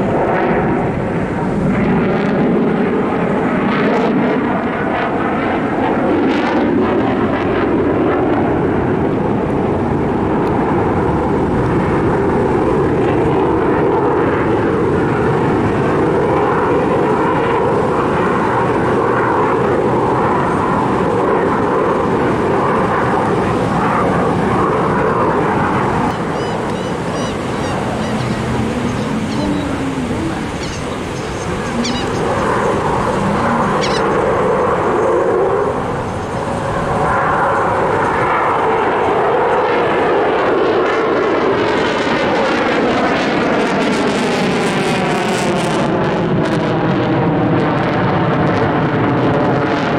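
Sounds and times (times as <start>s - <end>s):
aircraft engine roar: 0.0s - 49.9s.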